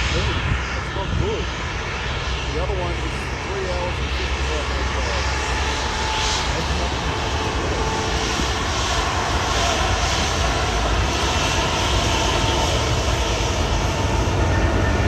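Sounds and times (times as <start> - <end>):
jet engines rumbling with hiss: 0.0 - 15.0.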